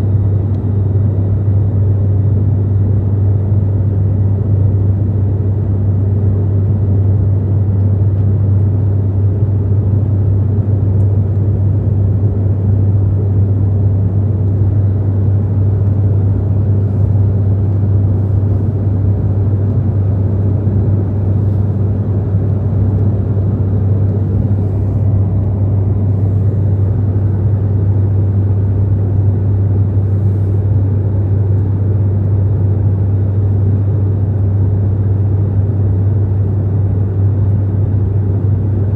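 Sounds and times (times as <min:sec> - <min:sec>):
airliner cabin engine drone: 0:00.0 - 0:38.9.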